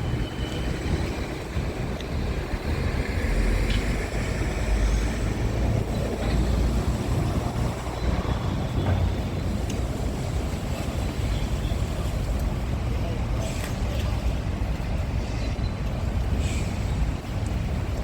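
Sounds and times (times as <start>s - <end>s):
vehicle engine low rumble: 0.0s - 18.0s.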